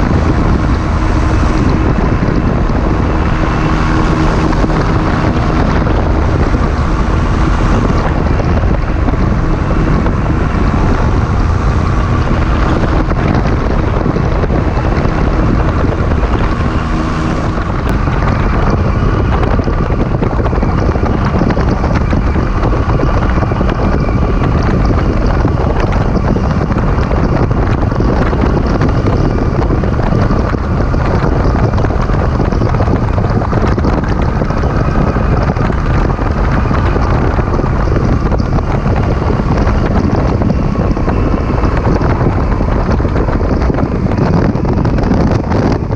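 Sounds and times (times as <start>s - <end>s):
light aircraft engine droning: 0.0s - 45.9s
wind buffeting microphone: 0.0s - 45.9s.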